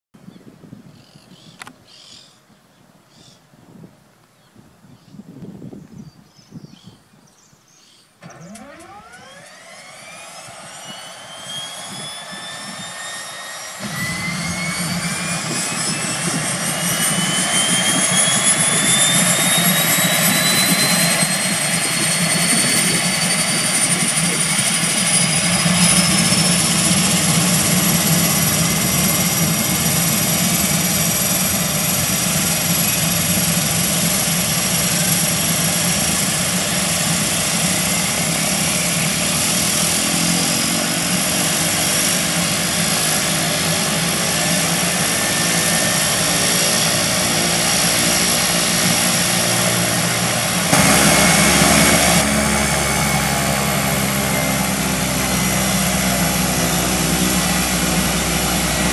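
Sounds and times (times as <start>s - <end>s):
turboprop turbine whine: 5.0s - 58.9s
propeller rushing: 8.2s - 58.9s.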